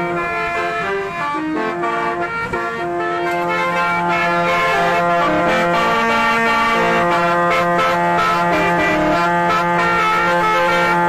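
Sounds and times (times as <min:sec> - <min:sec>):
musical car horn playing a tune: 0:00.0 - 0:11.0.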